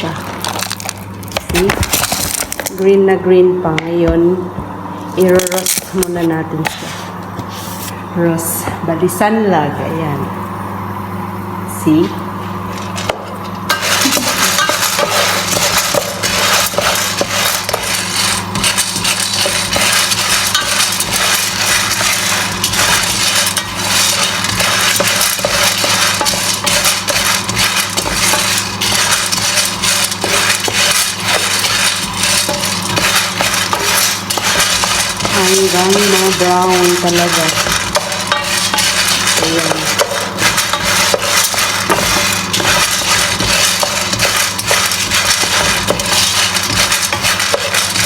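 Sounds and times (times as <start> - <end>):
coffee beans scraping in pan: 0.0 - 2.9, 5.2 - 8.0, 12.5 - 48.0
steady low hum: 0.0 - 48.0.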